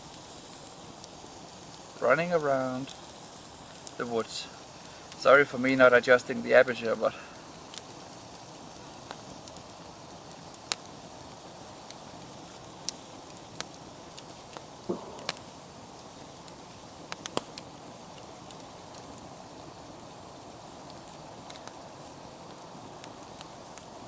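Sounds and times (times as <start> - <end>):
campfire crackling and popping: 0.0 - 24.0
faint hiss: 0.0 - 24.0.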